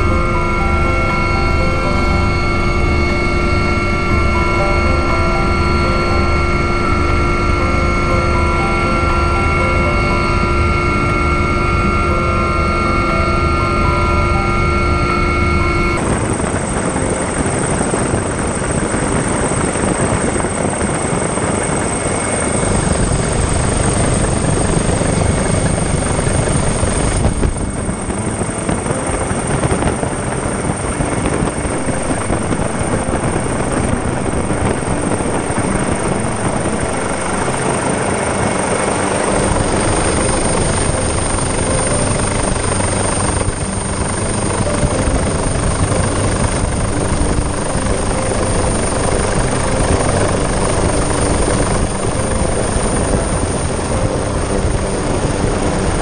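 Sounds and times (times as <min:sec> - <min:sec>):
helicopter rotor rushing noise: 0:00.0 - 0:56.0
thin high whine: 0:00.0 - 0:56.0.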